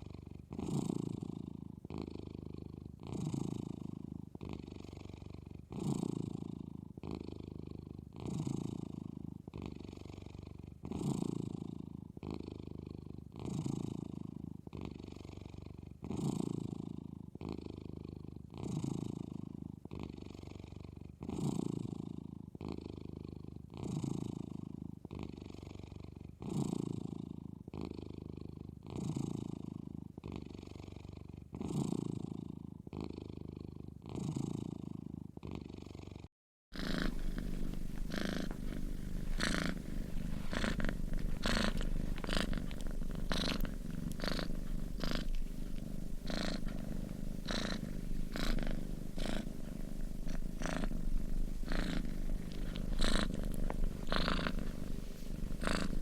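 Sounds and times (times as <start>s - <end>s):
cat snoring: 0.0s - 56.0s
purr-like rumble: 0.0s - 56.0s.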